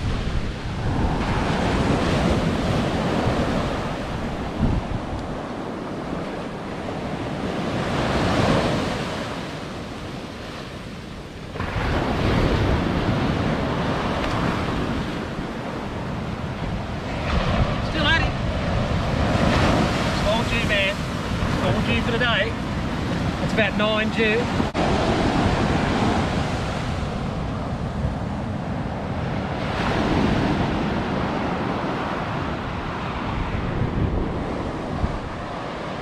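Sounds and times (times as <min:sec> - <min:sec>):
ocean surf breaking on beach: 0:00.0 - 0:36.0
wind buffeting microphone: 0:00.0 - 0:36.0.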